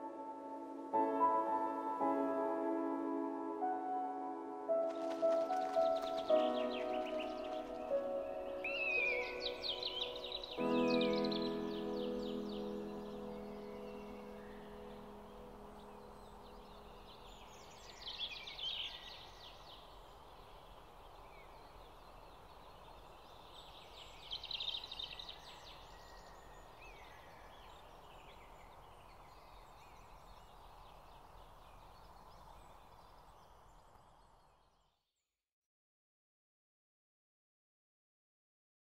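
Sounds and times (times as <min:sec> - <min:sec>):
faint outdoor ambience: 0:00.0 - 0:35.0.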